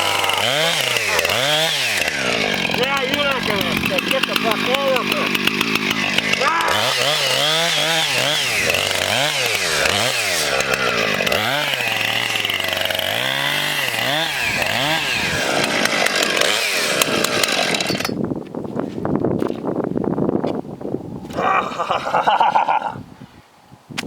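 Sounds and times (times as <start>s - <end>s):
chainsaw engine revving: 0.0s - 18.2s, 21.3s - 22.9s.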